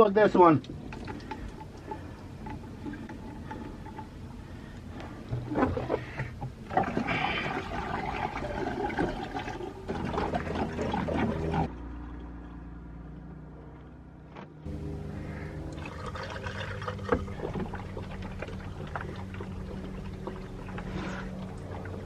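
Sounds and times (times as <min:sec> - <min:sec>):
liquid pouring and gurgling: 0:00.7 - 0:11.7, 0:15.2 - 0:22.0.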